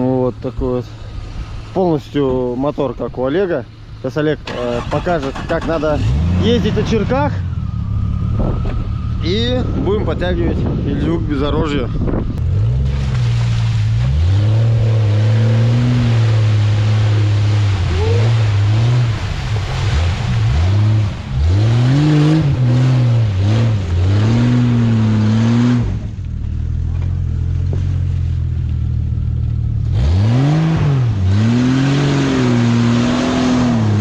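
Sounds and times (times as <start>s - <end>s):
car engine revving: 4.4s - 10.9s, 12.3s - 34.0s.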